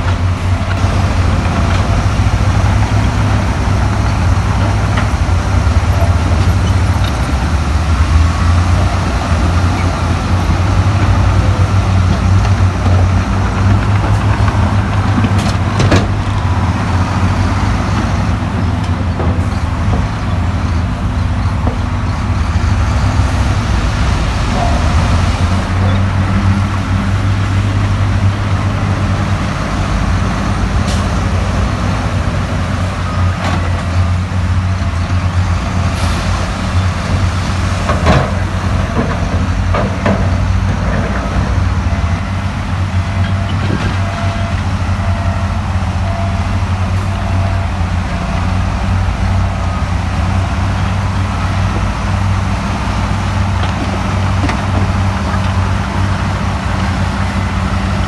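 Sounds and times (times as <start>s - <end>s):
heavy diesel machinery engine drone: 0.0s - 58.0s.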